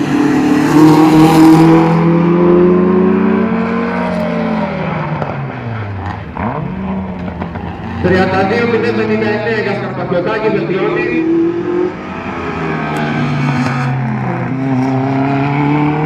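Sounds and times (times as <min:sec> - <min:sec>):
car engine revving hard: 0:00.0 - 0:05.4, 0:06.4 - 0:16.0.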